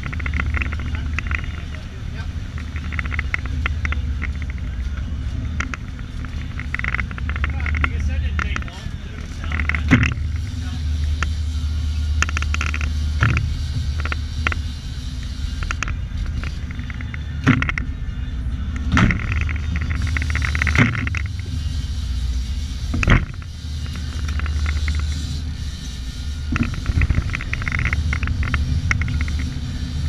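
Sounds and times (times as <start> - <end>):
boat engine rumbling: 0.0 - 30.0.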